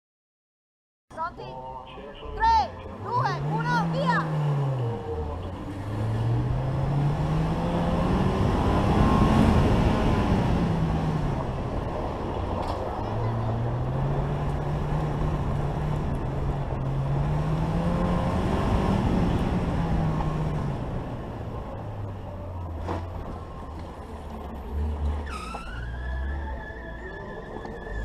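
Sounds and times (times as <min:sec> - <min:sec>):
gravel and road rumble: 0:01.1 - 0:28.0
car engine revving: 0:02.2 - 0:28.0.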